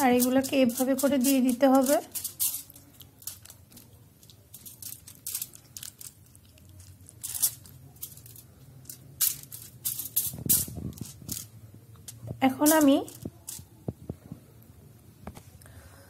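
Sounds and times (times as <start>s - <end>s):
aluminium foil crinkling: 0.0s - 13.8s.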